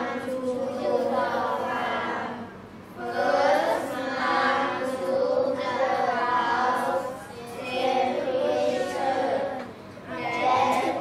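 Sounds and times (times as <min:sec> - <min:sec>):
children reading aloud in unison: 0:00.0 - 0:11.0.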